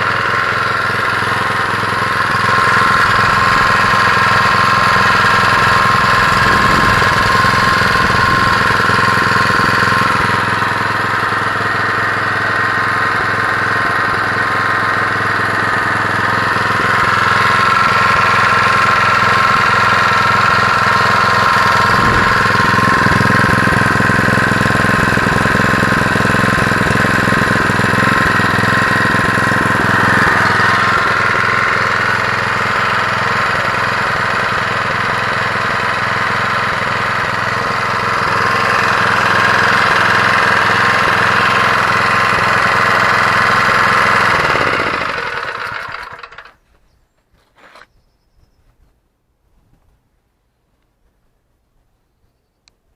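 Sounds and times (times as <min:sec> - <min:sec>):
petrol engine running: 0:00.0 - 0:46.6.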